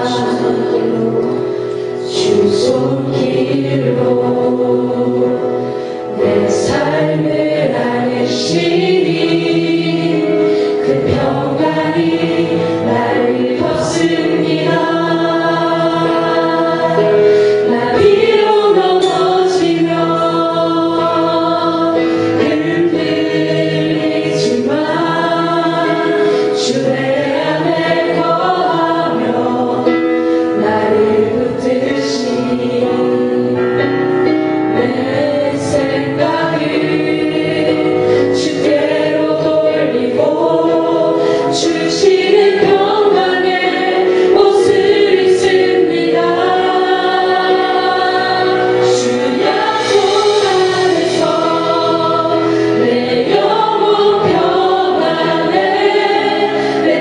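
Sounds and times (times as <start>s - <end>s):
music: 0.0s - 57.0s
voices singing worship song: 0.0s - 57.0s.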